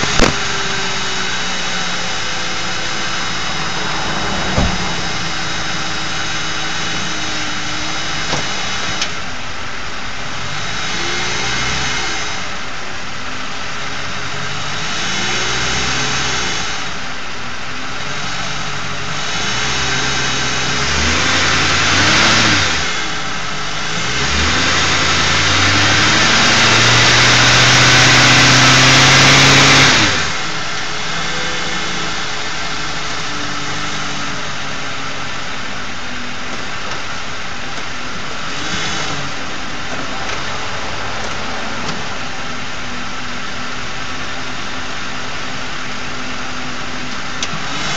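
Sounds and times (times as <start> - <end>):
engine idling and revving: 0.0 - 47.9.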